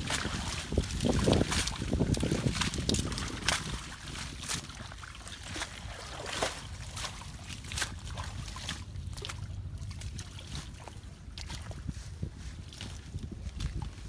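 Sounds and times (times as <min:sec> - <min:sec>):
sharp splashes: 0:00.0 - 0:12.0
pond water sloshing: 0:00.0 - 0:14.0
wet plants rustling: 0:00.0 - 0:14.0
wind rumble on microphone: 0:00.0 - 0:14.0.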